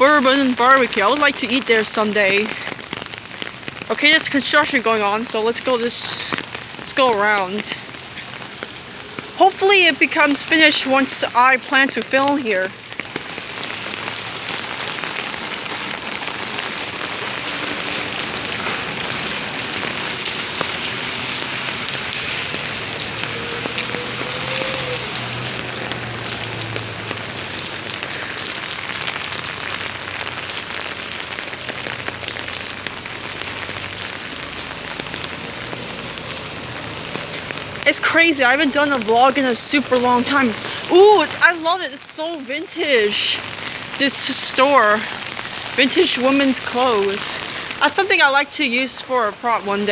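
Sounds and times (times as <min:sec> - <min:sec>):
pouring rain on hard surfaces: 0:00.0 - 0:49.9.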